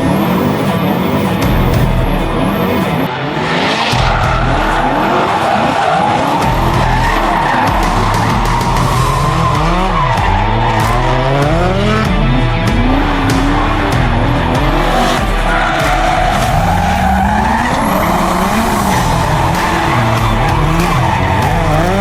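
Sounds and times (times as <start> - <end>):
car engine revving: 0.0 - 22.0
tyres skidding and squealing: 0.0 - 22.0.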